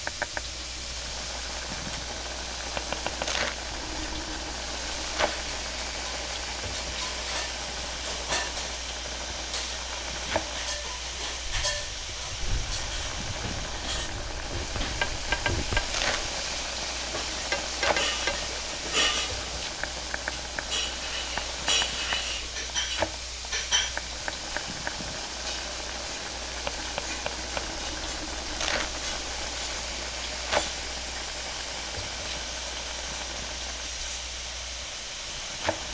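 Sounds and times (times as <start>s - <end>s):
hot griddle frying: 0.0s - 35.9s.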